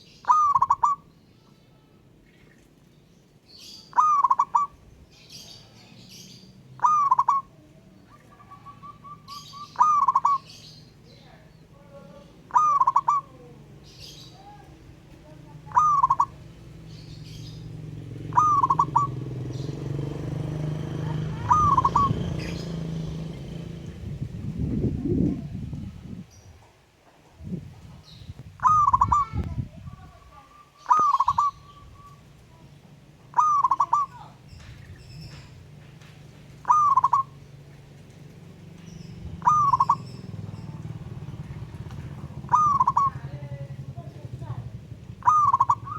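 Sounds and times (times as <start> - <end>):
small birds chirping: 0.0 - 45.9
dove cooing: 0.2 - 1.1, 3.8 - 4.9, 5.9 - 26.2, 27.4 - 45.9.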